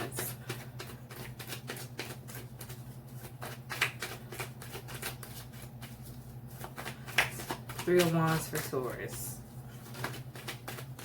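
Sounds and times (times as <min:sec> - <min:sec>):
cards shuffling: 0:00.0 - 0:11.0.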